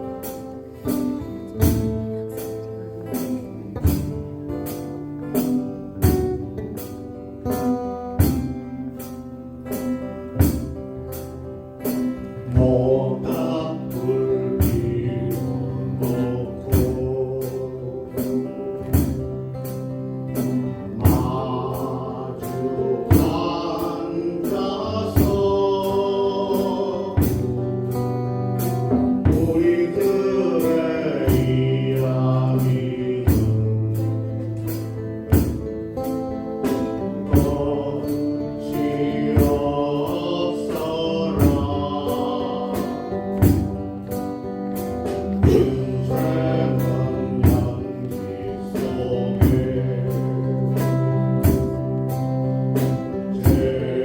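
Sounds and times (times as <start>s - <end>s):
group singing folk-pop song: 0.0s - 6.7s, 11.8s - 54.0s
strummed acoustic guitars: 0.0s - 54.0s.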